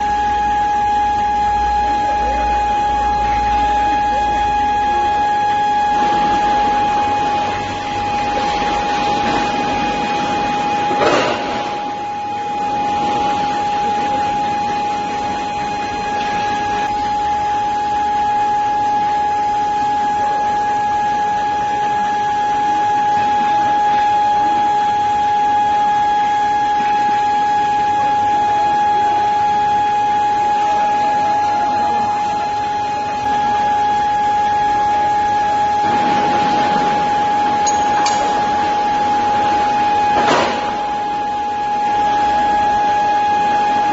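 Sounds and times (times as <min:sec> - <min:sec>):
furnace steady whine: 0:00.0 - 0:43.9.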